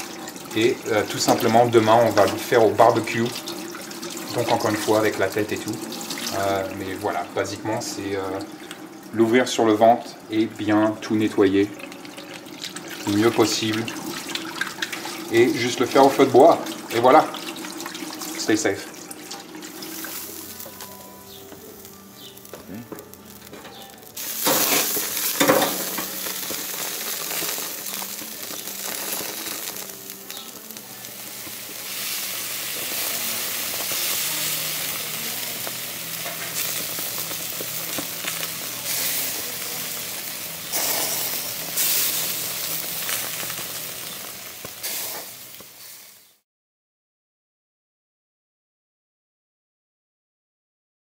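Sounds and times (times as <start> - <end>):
fish sizzling on grill: 0.0 - 46.4.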